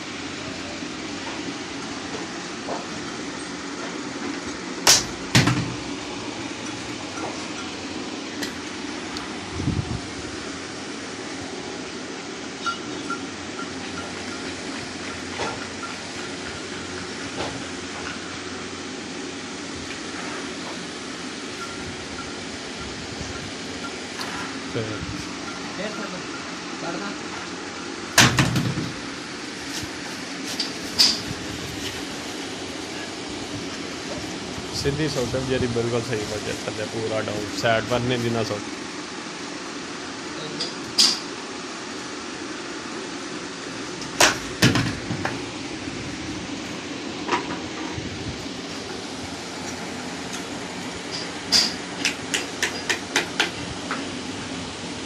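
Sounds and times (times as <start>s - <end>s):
steady background noise: 0.0s - 55.0s
steady low hum: 0.0s - 55.0s.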